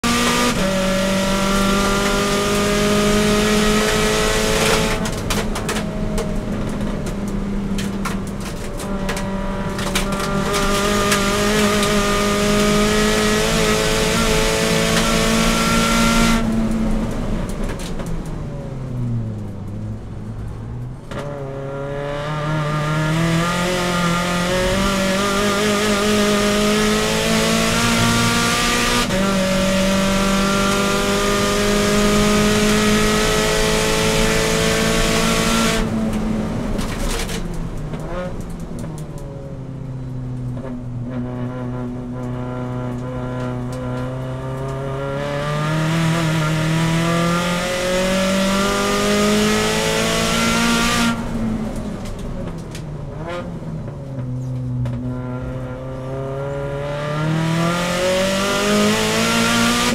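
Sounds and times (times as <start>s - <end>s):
race car engine at high revs: 0.0s - 18.1s, 21.1s - 38.9s, 40.6s - 59.9s.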